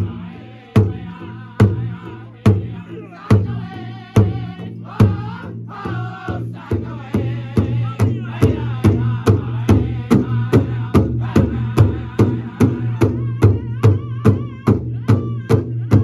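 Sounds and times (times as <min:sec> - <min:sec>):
big drum struck in unison: 0:00.0 - 0:16.0
group singing high wavering voices: 0:00.0 - 0:16.0.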